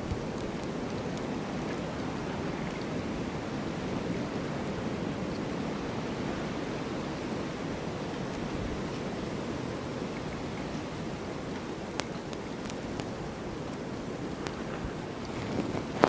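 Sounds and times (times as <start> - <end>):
snowstorm wind blowing: 0.0 - 16.0.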